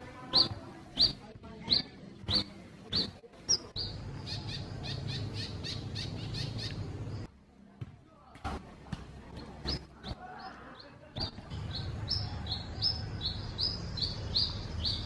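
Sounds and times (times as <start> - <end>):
bird singing high chirps: 0.3 - 7.3, 9.6 - 15.0.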